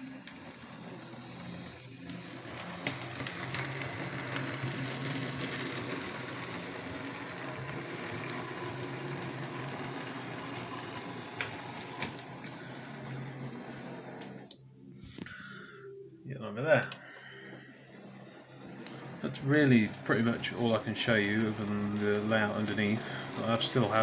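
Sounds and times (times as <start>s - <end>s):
wheels clicking on rails: 0.0s - 14.6s, 16.8s - 24.0s
electric motor whirring: 0.0s - 14.9s, 16.8s - 24.0s.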